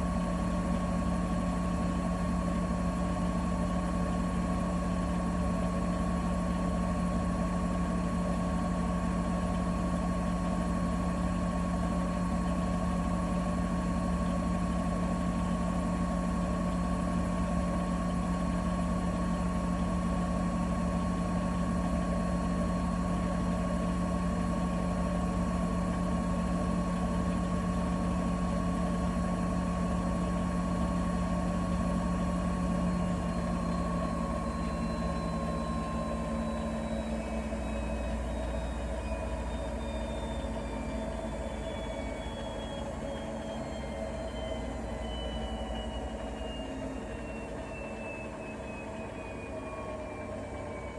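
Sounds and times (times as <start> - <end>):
washing machine motor hum: 0.0 - 50.9.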